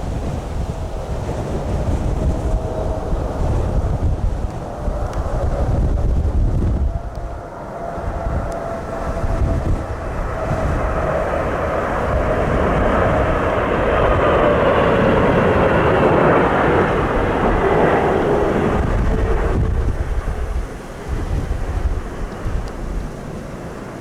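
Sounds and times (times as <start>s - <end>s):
jet airliner passing low: 0.0s - 24.0s
wind rumble on microphone: 0.0s - 24.0s.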